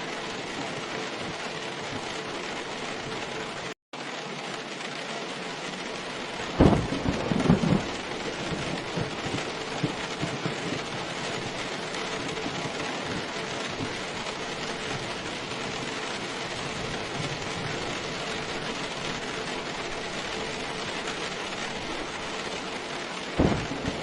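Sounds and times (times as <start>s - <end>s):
thunder clap rumbling: 0.0s - 3.7s, 5.7s - 24.0s
steady rain falling: 0.0s - 24.0s.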